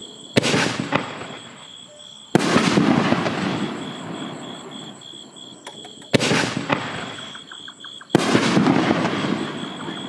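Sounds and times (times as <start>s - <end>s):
firework shells bursting with echo: 0.4s - 5.0s, 5.6s - 10.0s.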